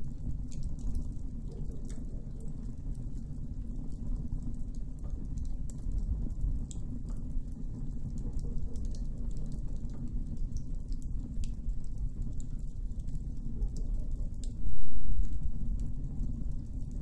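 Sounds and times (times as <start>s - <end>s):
campfire crackling and popping: 0.0s - 17.0s
fire low rumble: 0.0s - 17.0s.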